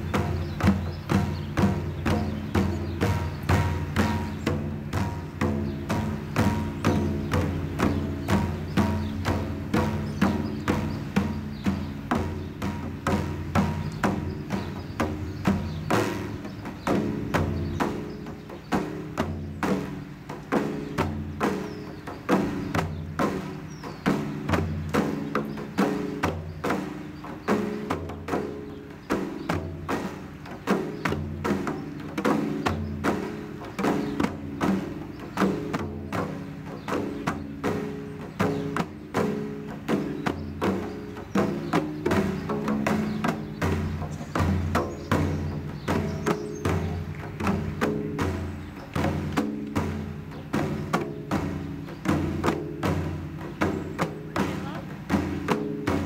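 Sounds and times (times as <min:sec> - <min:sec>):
deep bass drum strokes: 0:00.0 - 0:56.0
sharp higher drum strokes: 0:00.0 - 0:56.0.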